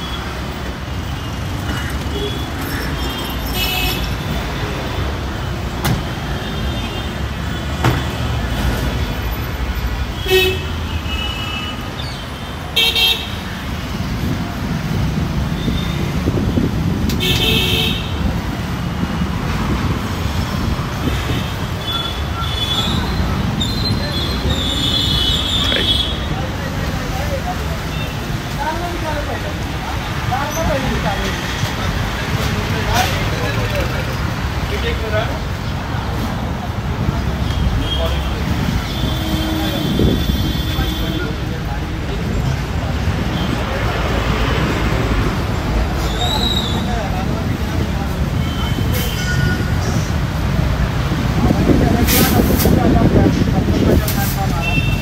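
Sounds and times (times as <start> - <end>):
traffic engine rumble: 0.0 - 55.0
voices of passers-by: 0.0 - 55.0.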